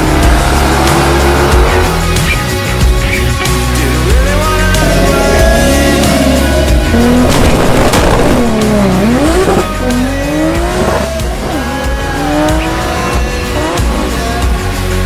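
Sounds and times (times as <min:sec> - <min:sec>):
car engine accelerating: 0:00.0 - 0:15.0
music: 0:00.0 - 0:15.0.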